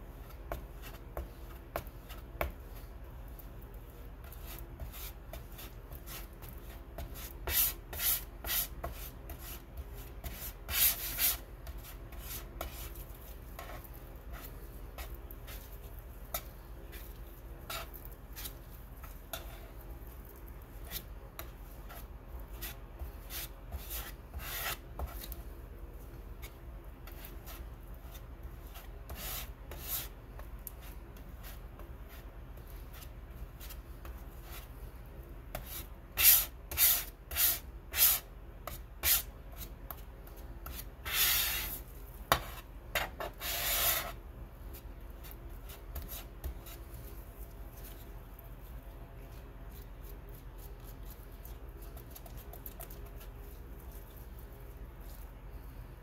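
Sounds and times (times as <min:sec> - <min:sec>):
palette knife scraping paint: 0:00.1 - 0:34.8, 0:35.5 - 0:55.3.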